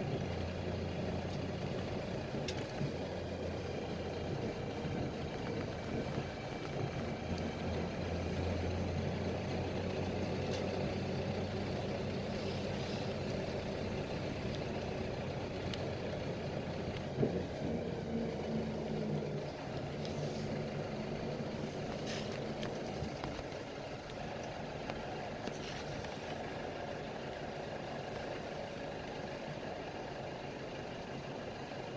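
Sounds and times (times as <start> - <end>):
bus engine humming: 0.0 - 31.9.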